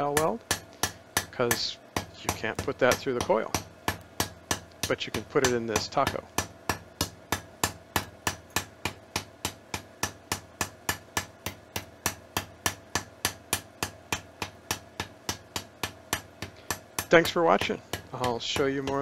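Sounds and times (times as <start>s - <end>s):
hammer striking steel on anvil: 0.0s - 19.0s.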